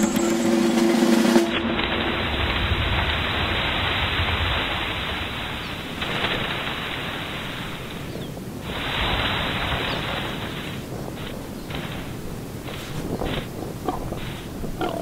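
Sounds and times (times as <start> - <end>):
wind rushing through trees: 0.0 - 15.0
snow falling off branches: 1.6 - 15.0.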